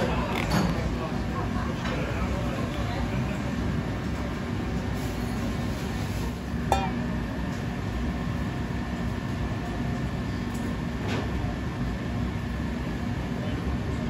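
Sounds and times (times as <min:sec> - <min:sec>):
kitchen ventilation drone: 0:00.0 - 0:14.0.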